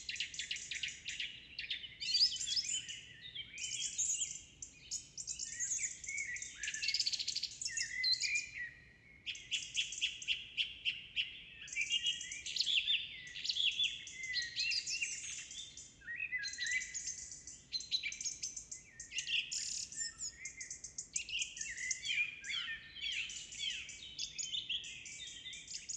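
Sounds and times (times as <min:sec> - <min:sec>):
songbirds singing: 0:00.0 - 0:25.9.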